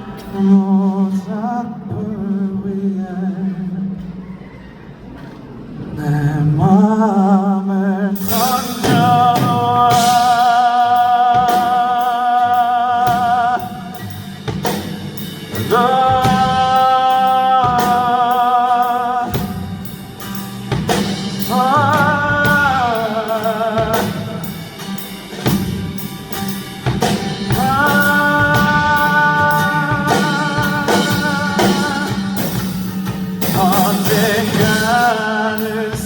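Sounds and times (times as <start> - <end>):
band with drums and guitar: 0.0 - 2.2, 8.2 - 36.0
male singer with vibrato: 0.0 - 4.4, 5.9 - 36.0.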